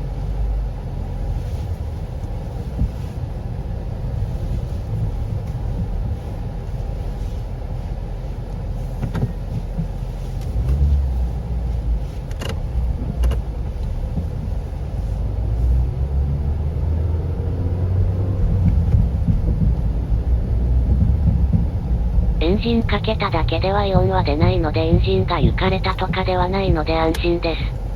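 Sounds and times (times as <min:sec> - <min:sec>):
car engine low rumble: 0:00.0 - 0:27.9.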